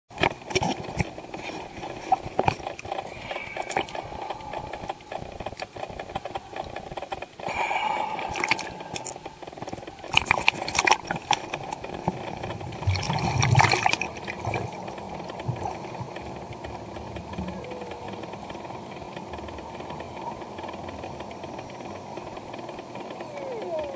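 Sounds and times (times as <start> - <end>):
water sloshing and splashing: 0.1 - 22.0
clicks and crackles: 0.1 - 23.9.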